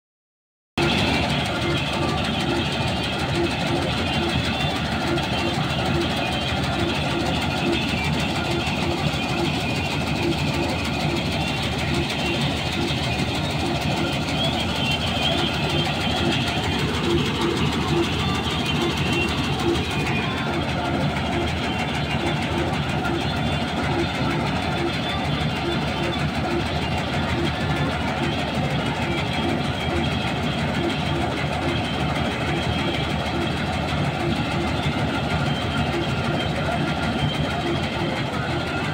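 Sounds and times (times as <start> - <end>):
combine harvester running: 0.8 - 38.9.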